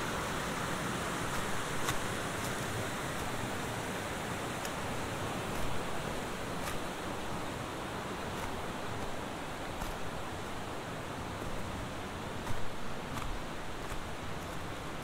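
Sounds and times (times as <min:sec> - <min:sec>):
river flowing over rocks: 0:00.0 - 0:15.0
footsteps on leafy dirt path: 0:00.4 - 0:15.0.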